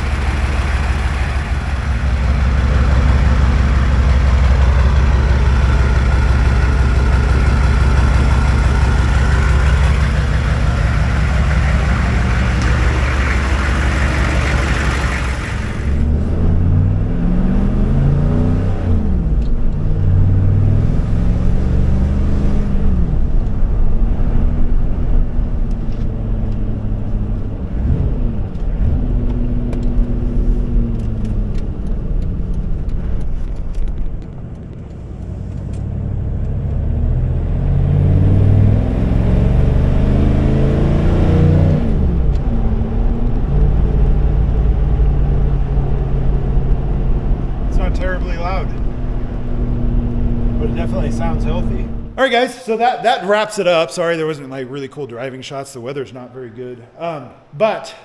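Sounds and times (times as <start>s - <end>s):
diesel truck engine accelerating: 0.0s - 52.2s.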